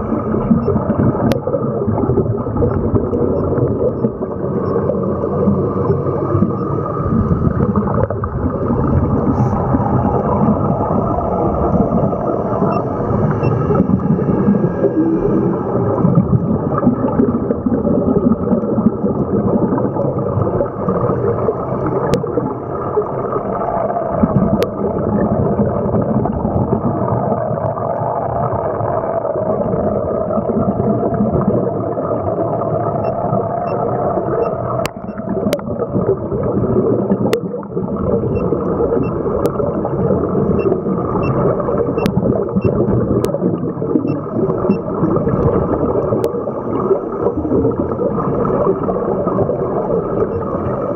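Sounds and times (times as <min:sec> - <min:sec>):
bubbles gurgling underwater: 0:00.0 - 0:50.9.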